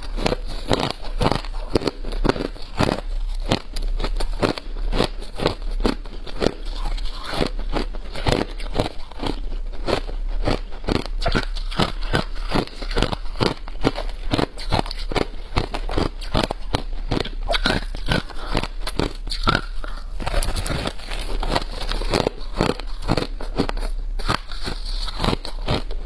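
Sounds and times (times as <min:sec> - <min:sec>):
crushed ice being chewed: 0:00.0 - 0:26.0.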